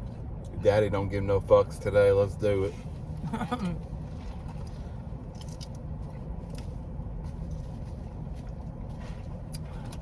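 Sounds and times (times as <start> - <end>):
car idling low rumble: 0.0 - 10.0.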